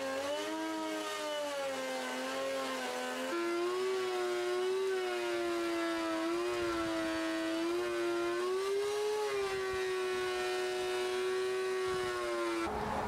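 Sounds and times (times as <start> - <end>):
thickness planer motor whine: 0.0 - 13.0.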